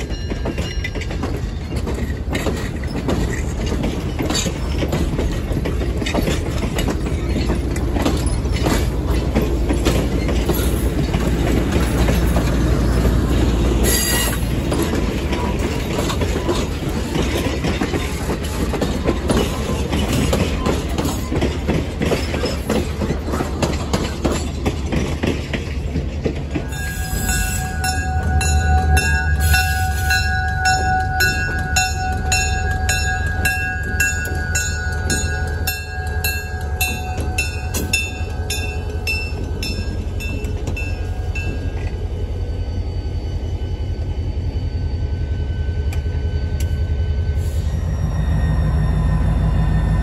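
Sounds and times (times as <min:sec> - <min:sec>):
locomotive bell ringing: 0:00.0 - 0:24.8, 0:26.5 - 0:50.0
diesel locomotive engine rumbling: 0:00.0 - 0:50.0.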